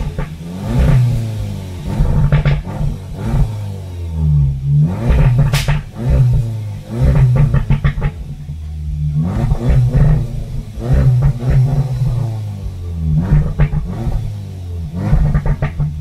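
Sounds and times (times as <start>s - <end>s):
car engine revving: 0.0s - 16.0s
exhaust crackles and pops: 0.0s - 16.0s.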